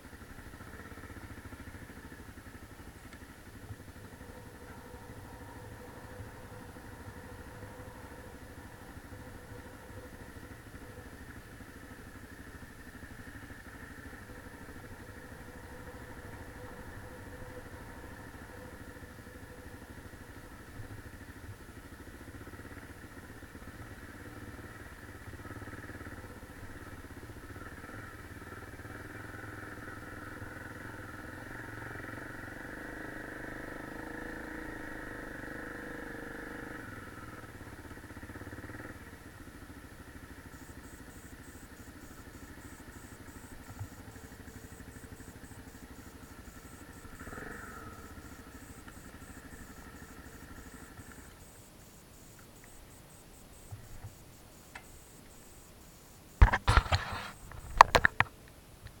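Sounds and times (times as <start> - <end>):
dirt bike engine running: 0.0 - 58.3.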